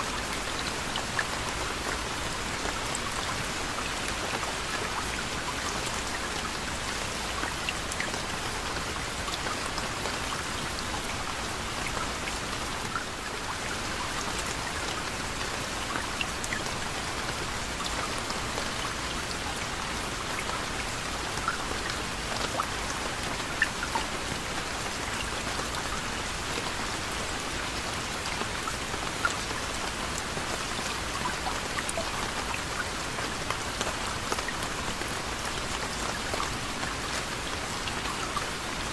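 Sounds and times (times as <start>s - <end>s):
soft steady rain: 0.0s - 38.9s.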